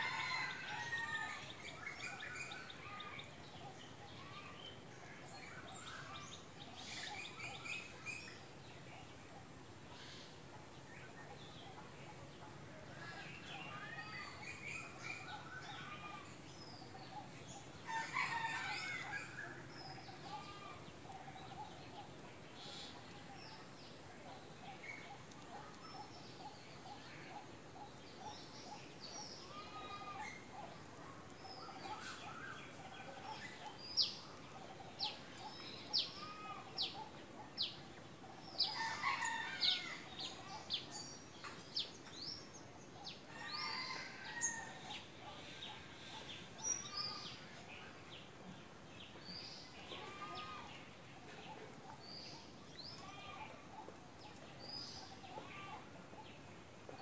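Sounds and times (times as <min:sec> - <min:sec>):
steady high-pitched hiss: 0:00.0 - 0:57.0.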